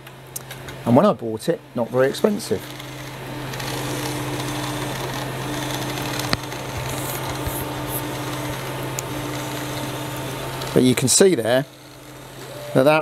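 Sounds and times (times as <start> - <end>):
small electric motor humming: 1.8 - 13.0.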